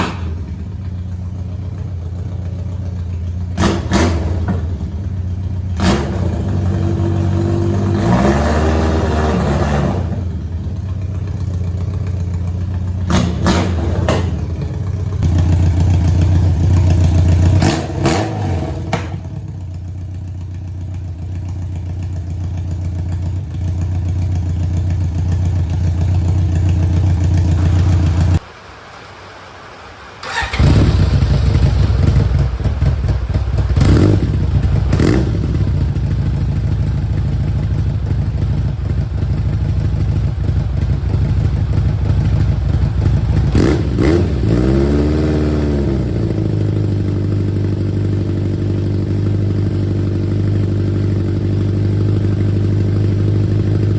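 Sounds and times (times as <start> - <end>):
motorcycle engine idling and revving: 0.0 - 28.4, 30.2 - 53.9.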